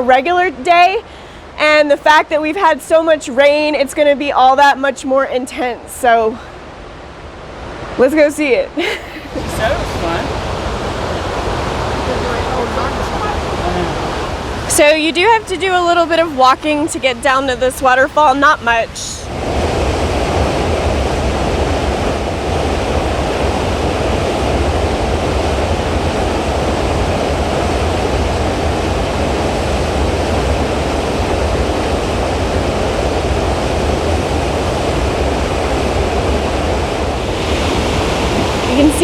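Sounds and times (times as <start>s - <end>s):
waterfall rushing: 7.4s - 39.0s.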